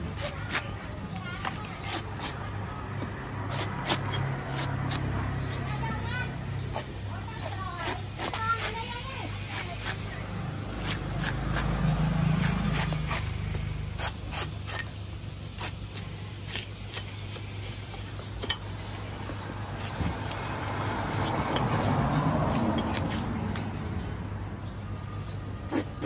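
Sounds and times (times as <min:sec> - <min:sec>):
cleaver chopping coconut husk: 0:00.0 - 0:23.8, 0:25.7 - 0:26.0.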